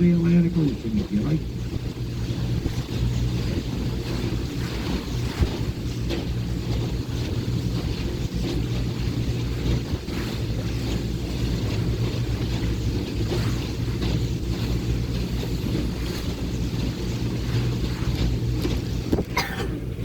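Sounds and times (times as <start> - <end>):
speedboat engine running: 0.0 - 20.0
wind buffeting microphone: 0.0 - 20.0.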